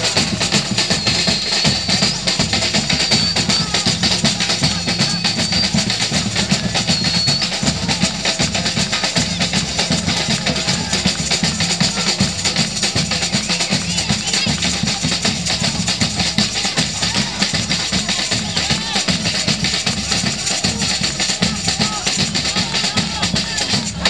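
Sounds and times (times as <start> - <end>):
carnival band music: 0.0 - 24.0
drums: 0.0 - 24.0
tambourine-like jingles: 0.0 - 24.0.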